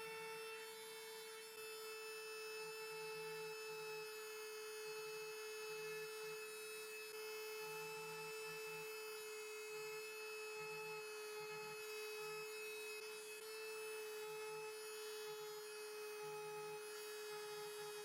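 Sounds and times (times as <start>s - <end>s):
small electric motor humming: 0.0s - 18.0s.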